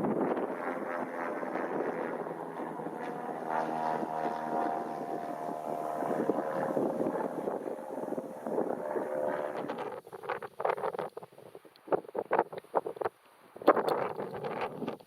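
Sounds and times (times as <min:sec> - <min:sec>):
light aircraft engine droning: 0:00.0 - 0:15.0
wind buffeting microphone: 0:00.0 - 0:15.0.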